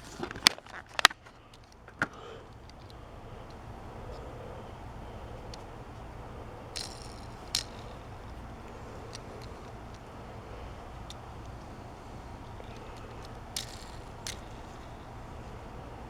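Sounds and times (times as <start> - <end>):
low room hum: 0.0 - 16.0
faint ticks: 1.5 - 16.0.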